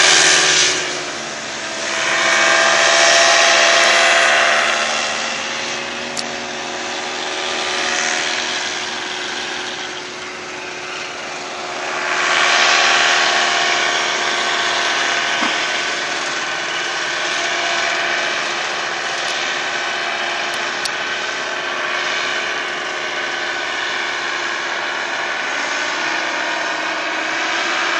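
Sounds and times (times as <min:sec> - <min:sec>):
paramotor engine and propeller: 0:00.0 - 0:27.9.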